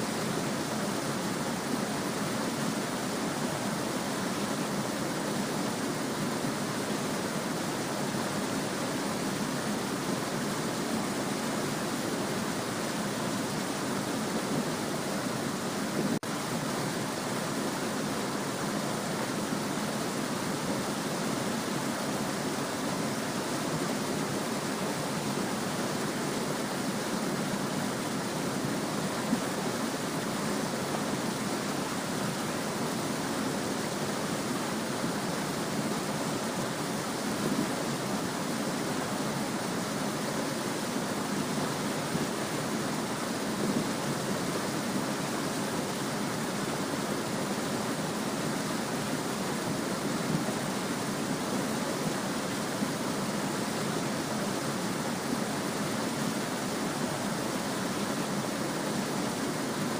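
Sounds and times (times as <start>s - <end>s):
small stream babbling: 0.0s - 59.9s.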